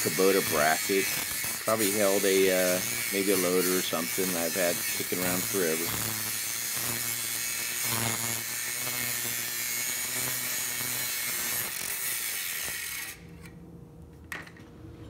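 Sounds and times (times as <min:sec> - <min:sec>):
angle grinder cutting steel: 0:00.0 - 0:13.2.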